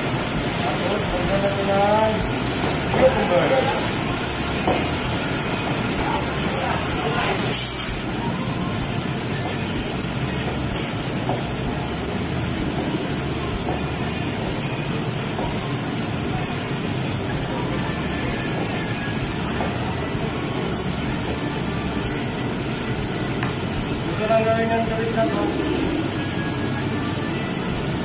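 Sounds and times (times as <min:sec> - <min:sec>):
steady machine noise: 0:00.0 - 0:28.0.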